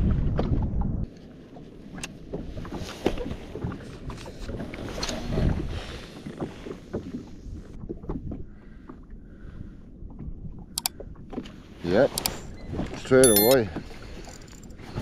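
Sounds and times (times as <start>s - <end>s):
water lapping against hull: 0.0s - 13.1s.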